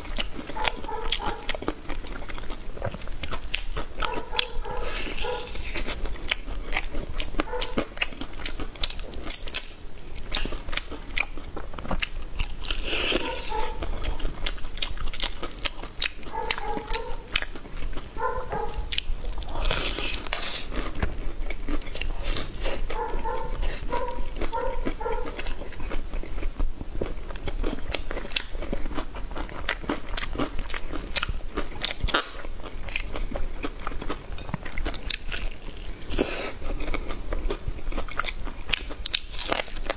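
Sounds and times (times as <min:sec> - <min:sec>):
crunchy bites and chewing: 0:00.0 - 0:39.9.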